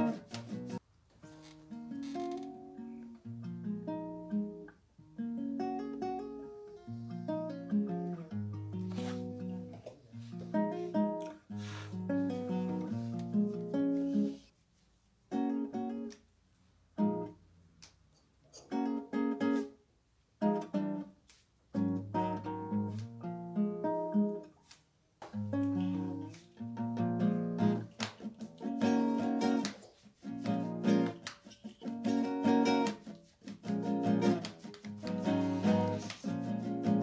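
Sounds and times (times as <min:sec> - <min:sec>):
acoustic guitar music: 0:00.0 - 0:14.5, 0:15.3 - 0:16.1, 0:16.9 - 0:17.5, 0:18.5 - 0:19.8, 0:20.4 - 0:24.7, 0:25.3 - 0:37.0.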